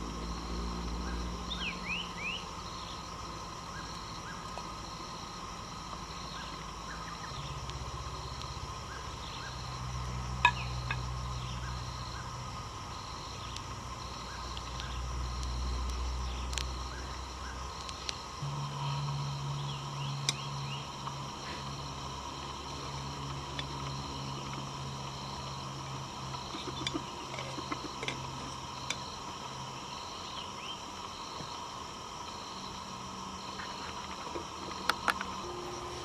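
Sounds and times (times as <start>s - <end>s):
distant engine drone: 0.0s - 36.0s
insects chorus: 0.0s - 36.0s.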